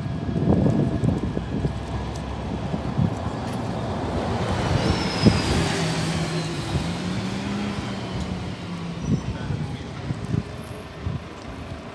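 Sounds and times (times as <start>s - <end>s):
street traffic: 0.0s - 11.9s
tram pulling away: 0.0s - 11.9s.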